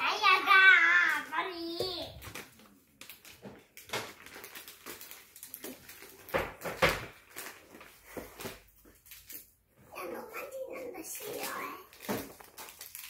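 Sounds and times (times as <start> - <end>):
plastic packets crinkling: 0.9 - 13.0.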